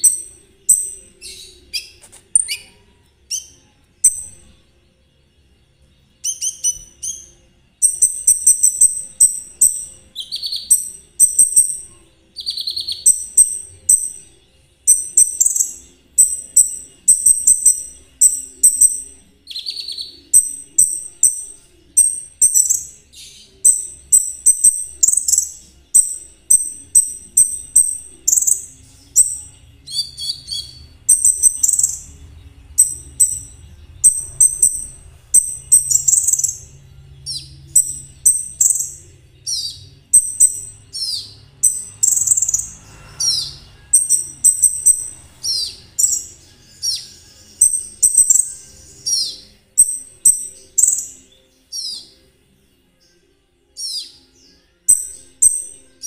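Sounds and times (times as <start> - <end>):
songbird singing chattering song: 0.0 - 56.0.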